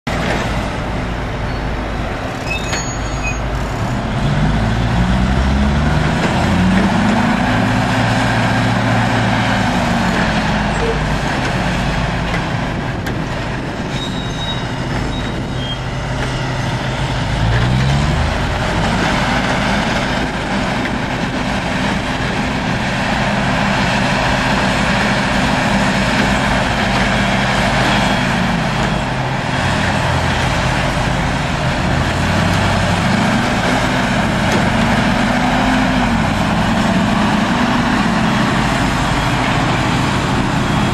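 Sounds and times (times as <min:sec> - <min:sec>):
diesel machinery engine revving: 0:00.1 - 0:40.9.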